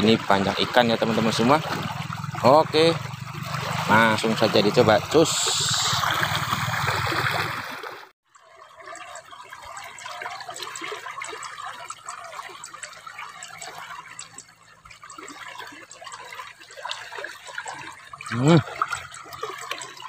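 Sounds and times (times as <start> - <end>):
drips: 0.0 - 20.0
water trickling and gurgling: 0.0 - 20.0.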